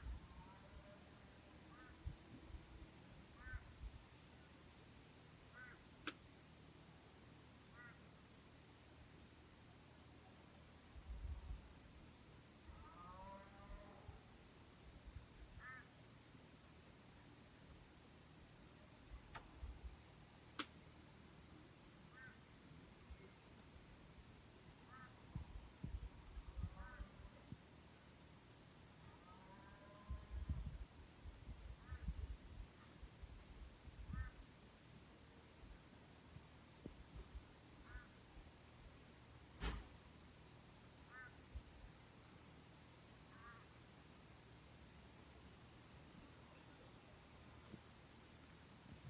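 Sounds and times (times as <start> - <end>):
night insects droning: 0.0 - 49.0.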